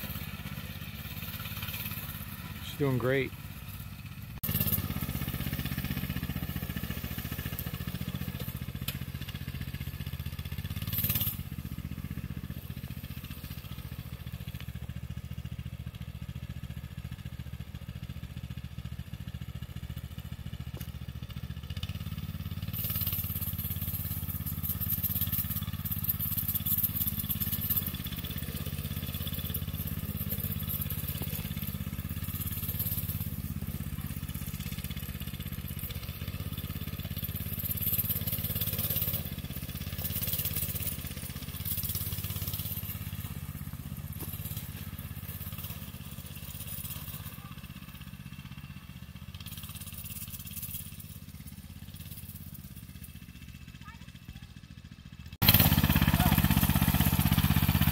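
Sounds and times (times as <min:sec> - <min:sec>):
minibike engine revving: 0:00.0 - 0:57.9.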